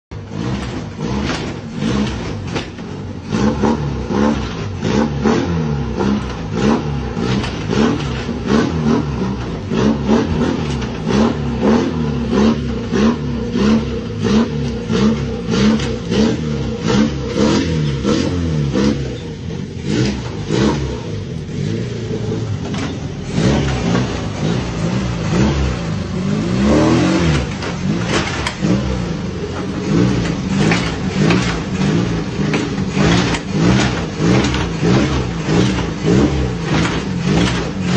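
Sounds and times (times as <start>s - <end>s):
car engine surging: 0.1s - 37.9s.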